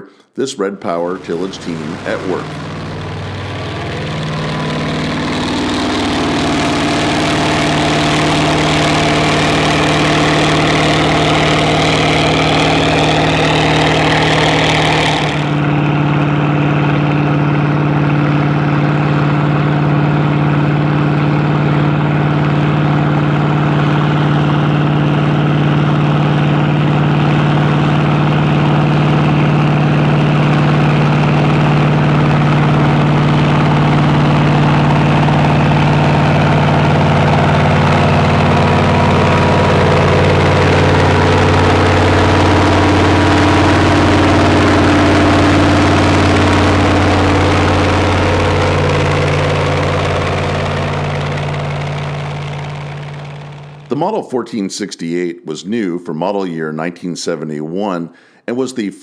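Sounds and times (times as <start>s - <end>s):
diesel tractor engine under load: 1.0s - 54.0s.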